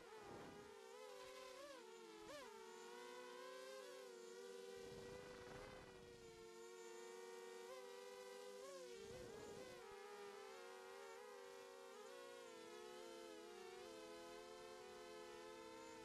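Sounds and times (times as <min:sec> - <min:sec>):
drone motors buzzing whine: 0:00.0 - 0:16.0.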